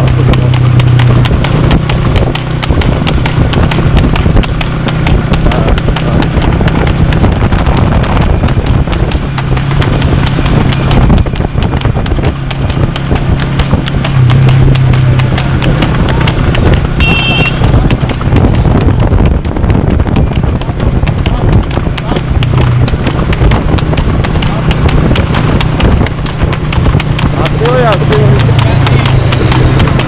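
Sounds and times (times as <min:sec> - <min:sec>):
hooves clip-clopping on asphalt: 0:00.0 - 0:30.0.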